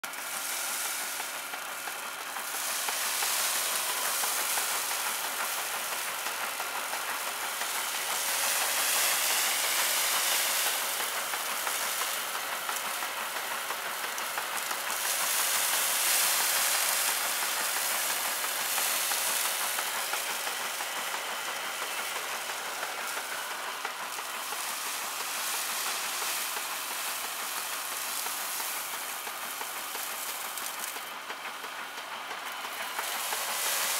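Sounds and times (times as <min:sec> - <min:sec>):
threshing machine whirring and rasping: 0:00.0 - 0:33.9.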